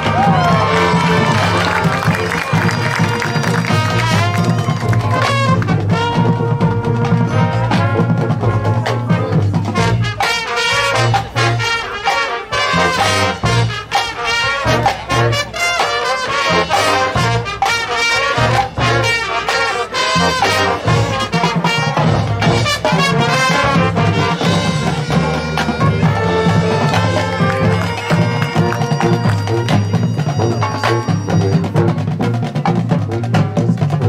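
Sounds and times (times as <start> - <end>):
marching band playing: 0.0 - 34.0.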